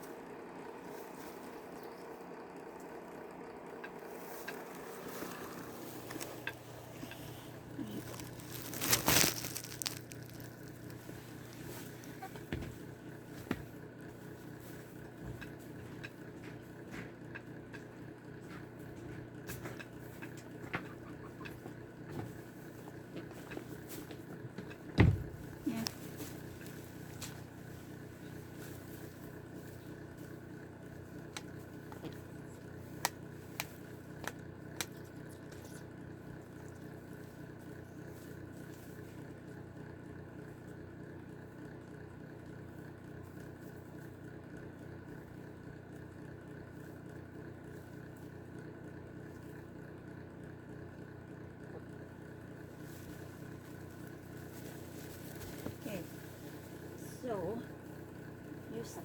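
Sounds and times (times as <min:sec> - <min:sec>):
heater humming: 0:00.0 - 0:59.0.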